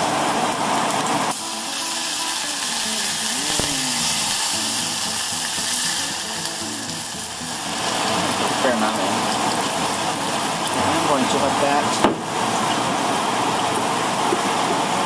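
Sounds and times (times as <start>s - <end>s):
vinegar sizzling in hot oil: 0.7s - 13.4s.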